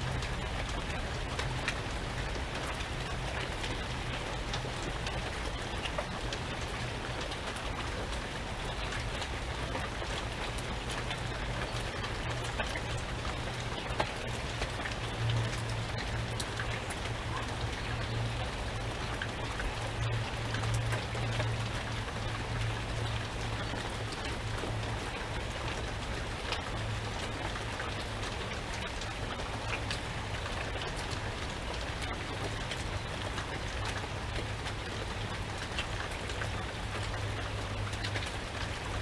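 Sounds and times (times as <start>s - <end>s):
raindrops ticking: 0.0s - 39.0s
steady rain falling: 0.0s - 39.0s.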